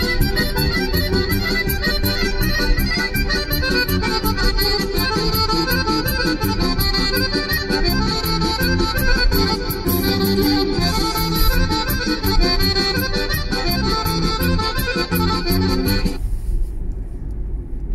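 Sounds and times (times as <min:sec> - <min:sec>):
accordion dance music: 0:00.0 - 0:16.2
car road noise: 0:00.0 - 0:17.9.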